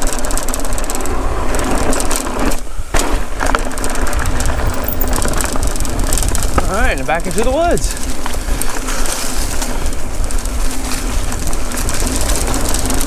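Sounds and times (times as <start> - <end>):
bike clicks and rattles: 0.0 - 13.0
bike tyres on dirt: 0.0 - 13.0
wind rumbling on microphone: 0.0 - 13.0.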